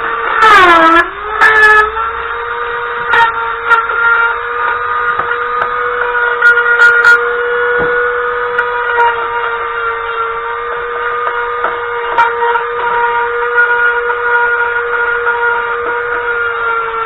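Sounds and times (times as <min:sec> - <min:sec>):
tool scraping rusty metal: 0:00.0 - 0:16.5
power tool motor whining: 0:00.0 - 0:17.0.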